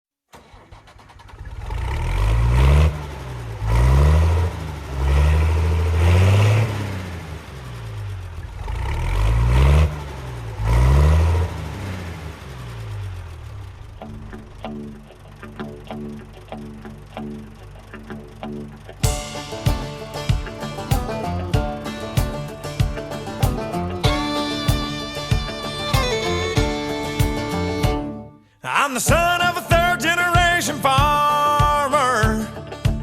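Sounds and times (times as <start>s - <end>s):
engine revving: 0.4s - 28.2s.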